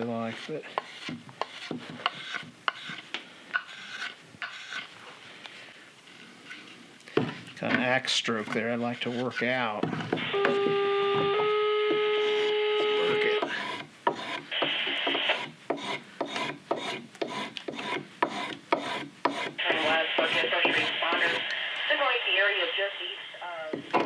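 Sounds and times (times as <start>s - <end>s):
spokeshave scraping wood: 0.0s - 21.4s.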